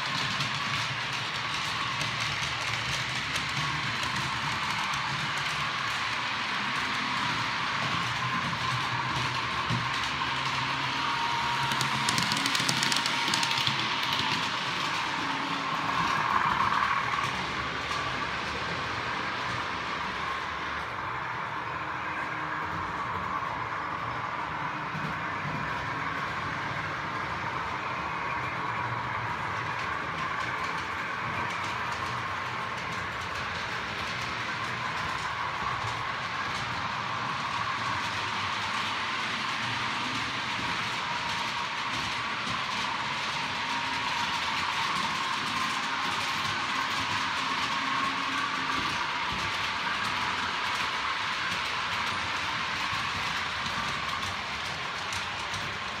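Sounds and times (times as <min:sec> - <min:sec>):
model train motors whirring: 0:00.0 - 0:56.0.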